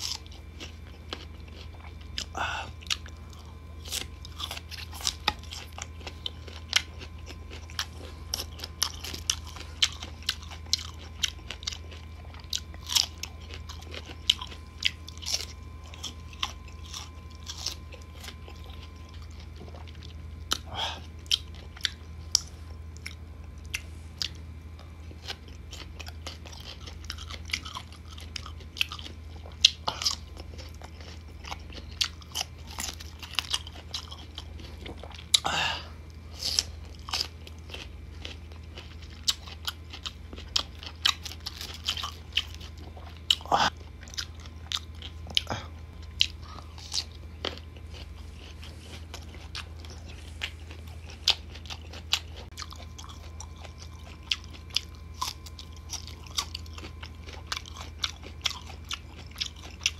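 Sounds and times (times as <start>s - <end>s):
crunchy chewing of mango: 0.0s - 59.9s.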